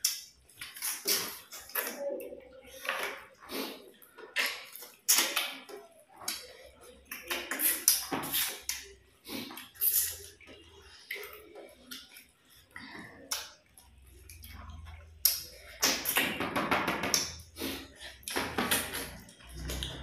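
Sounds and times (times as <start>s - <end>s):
wet chewing and smacking: 0.0s - 16.3s, 17.0s - 20.0s.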